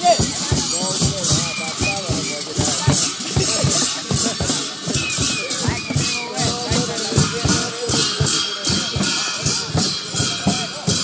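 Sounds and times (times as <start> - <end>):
frame drums beaten: 0.0 - 11.0.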